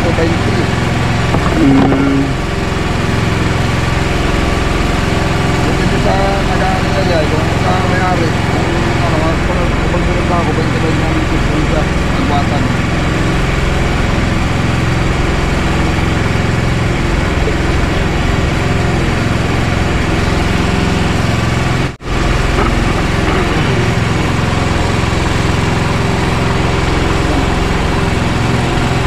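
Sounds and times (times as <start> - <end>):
small engine humming: 0.0 - 29.0.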